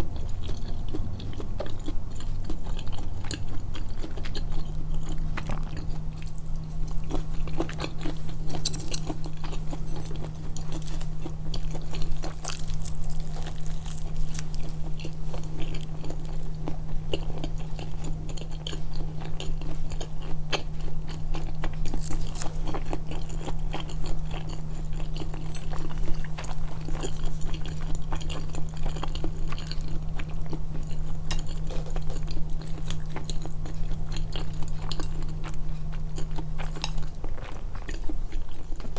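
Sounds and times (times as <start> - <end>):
person chewing: 0.0 - 38.9.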